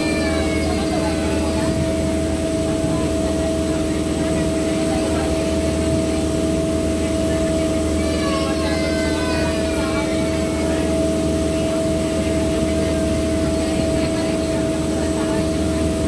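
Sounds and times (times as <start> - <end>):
boat engine humming: 0.0 - 16.0
faint voices: 0.0 - 16.0.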